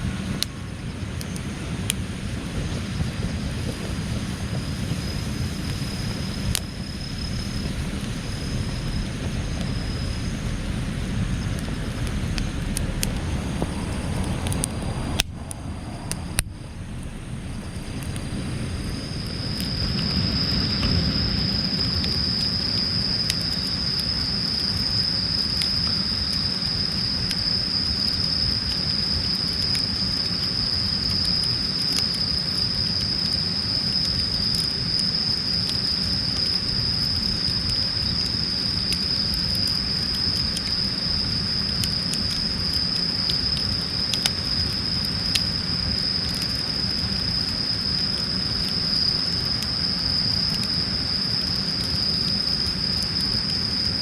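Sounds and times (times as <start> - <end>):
crickets trilling: 0.0 - 54.0
wood fire crackling and popping: 0.2 - 54.0.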